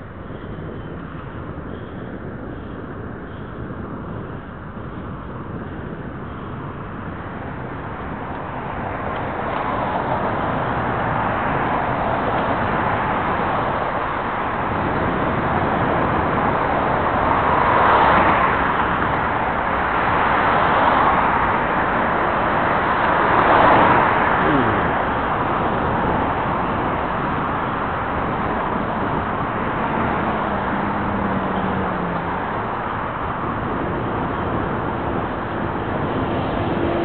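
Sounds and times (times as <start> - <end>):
cars passing on road: 0.0 - 37.0.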